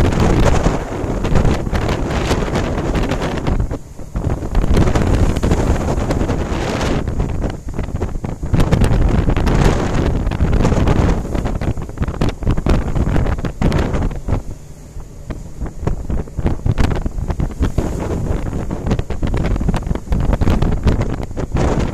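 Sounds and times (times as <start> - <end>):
sea rushing along ship hull: 0.0 - 21.9
strong wind buffeting microphone: 0.0 - 21.9.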